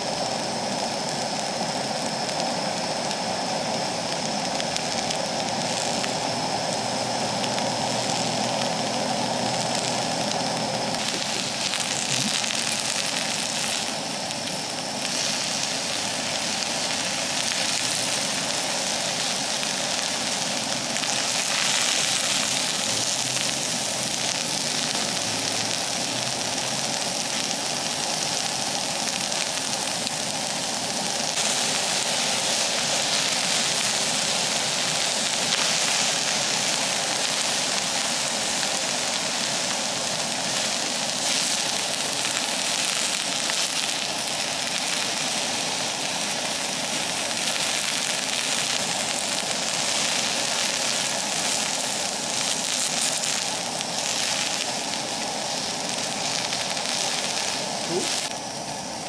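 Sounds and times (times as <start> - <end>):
food sizzling in oil: 0.0 - 59.0
gas burner rushing: 0.0 - 59.0.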